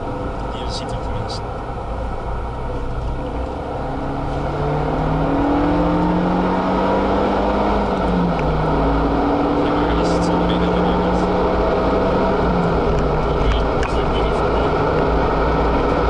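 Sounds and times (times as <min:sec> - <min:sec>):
car engine accelerating: 0:00.0 - 0:16.0
road and tyre noise: 0:00.0 - 0:16.0.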